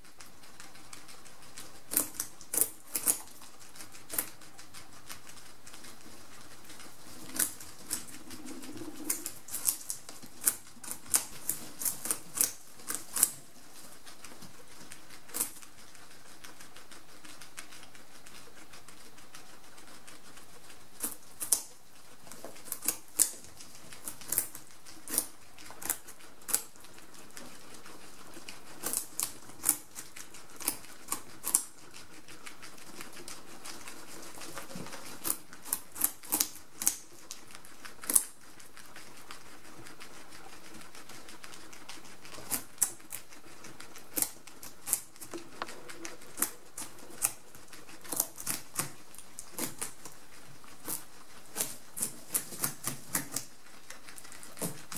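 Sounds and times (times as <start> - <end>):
guinea pigs crunching pumpkin: 0.0 - 54.9.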